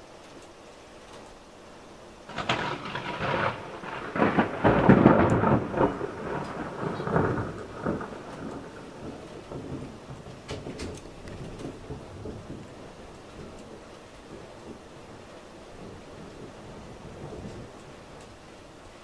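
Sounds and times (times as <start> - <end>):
thunder rumbling: 2.3 - 19.0.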